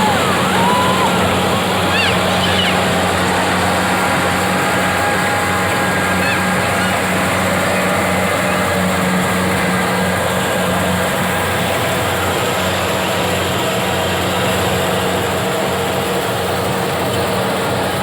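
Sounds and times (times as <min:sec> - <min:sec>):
engine running with low hum: 0:00.0 - 0:18.0.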